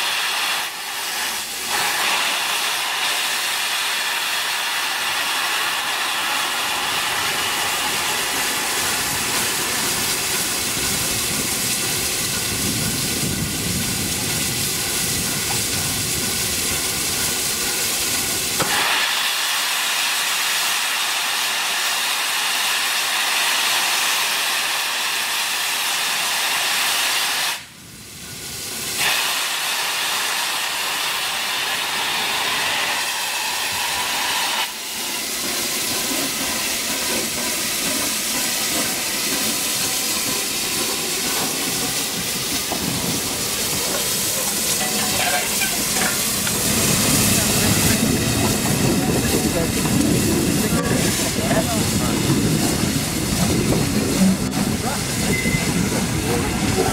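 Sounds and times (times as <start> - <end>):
steam locomotive hissing: 0.0 - 56.9.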